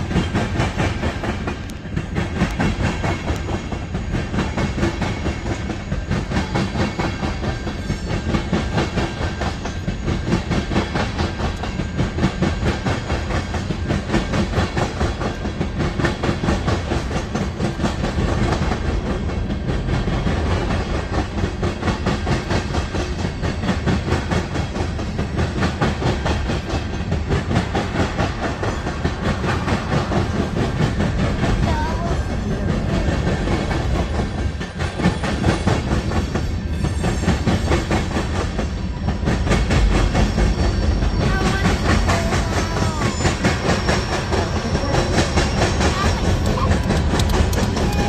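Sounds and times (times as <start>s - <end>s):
train wheels clicking over rail joints: 0.0s - 48.0s.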